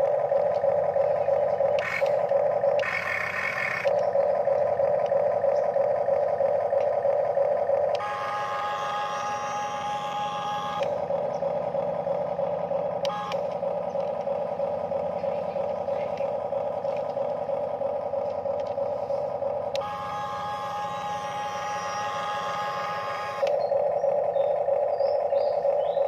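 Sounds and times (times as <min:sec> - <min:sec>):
higher-pitched whine: 0:00.0 - 0:26.0
toy electric motors whining: 0:00.0 - 0:26.0.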